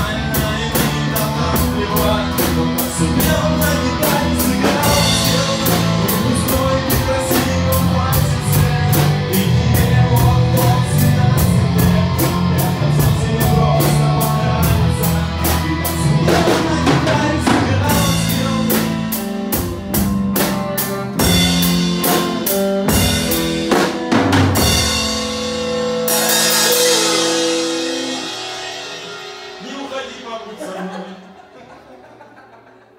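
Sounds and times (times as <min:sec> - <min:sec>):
bass: 0:00.0 - 0:30.8
drum kit beat: 0:00.0 - 0:31.6
guitar chords: 0:00.0 - 0:32.4.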